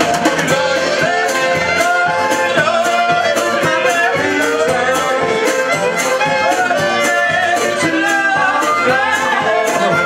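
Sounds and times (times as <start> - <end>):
banjo: 0.0 - 10.0
fiddle: 0.0 - 10.0
strummed guitars: 0.0 - 10.0
voices singing along: 0.0 - 10.0.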